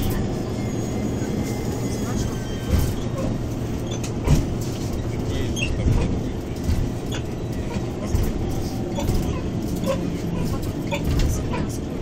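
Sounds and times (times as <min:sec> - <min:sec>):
squeaks and creaks from bus body: 0:00.0 - 0:12.0
trolleybus cabin rumble: 0:00.0 - 0:12.0.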